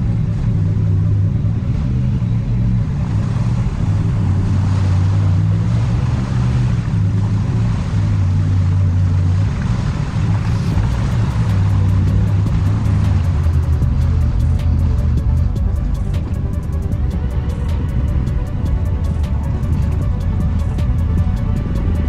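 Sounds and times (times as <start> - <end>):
rushing noise: 0.0 - 22.0
vehicle engine droning: 0.0 - 22.0.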